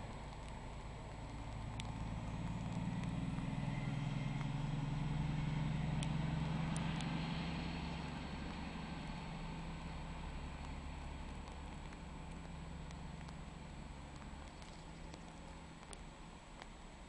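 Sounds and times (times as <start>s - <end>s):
locomotive engine droning: 0.0s - 17.0s.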